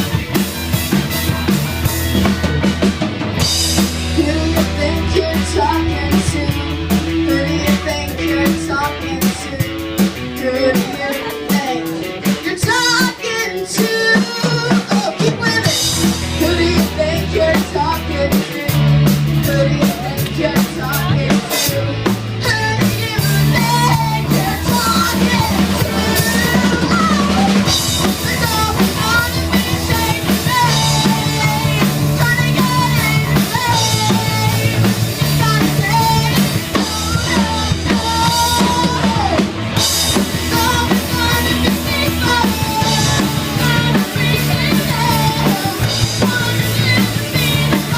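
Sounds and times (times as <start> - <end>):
bass line: 0.0 - 47.9
drum kit: 0.0 - 47.9
live rock band playing: 0.0 - 47.9.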